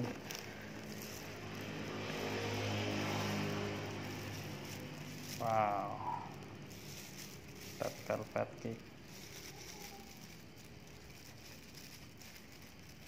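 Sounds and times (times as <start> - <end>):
motor engine passing by: 0.0 - 12.6.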